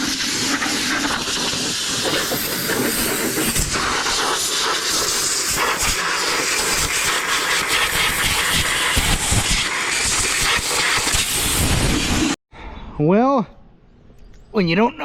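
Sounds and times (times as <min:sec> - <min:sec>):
air blower hissing: 0:00.0 - 0:12.4.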